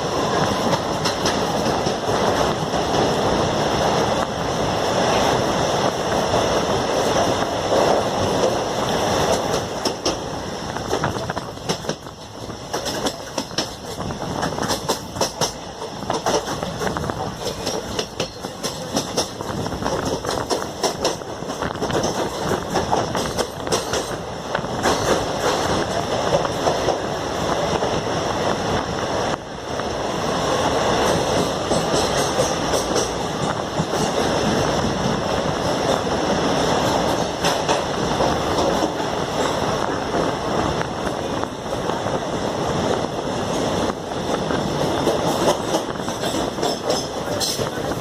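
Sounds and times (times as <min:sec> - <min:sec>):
wheels clicking over rail joints: 0:00.0 - 0:04.4, 0:05.9 - 0:27.2, 0:30.8 - 0:41.9, 0:43.4 - 0:48.0
train rumbling along track: 0:00.0 - 0:48.0.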